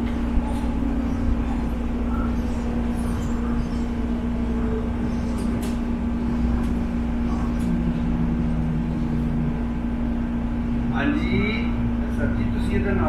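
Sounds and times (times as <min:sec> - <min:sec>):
train rumble: 0:00.0 - 0:13.0
two-tone hum: 0:00.0 - 0:13.0.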